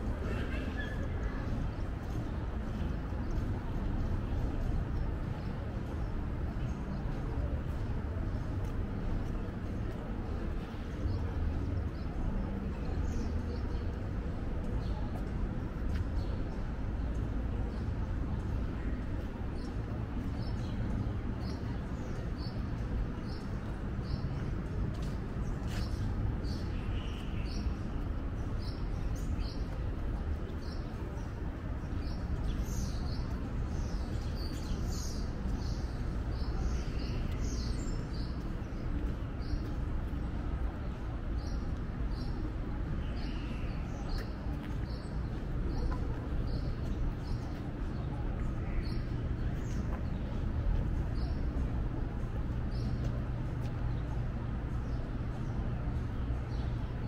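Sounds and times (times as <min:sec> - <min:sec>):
city ambience rumble: 0:00.0 - 0:57.0.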